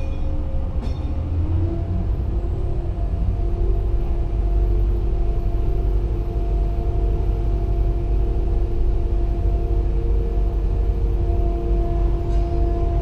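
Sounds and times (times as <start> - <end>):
crane machinery rumble and hum: 0.0 - 13.0.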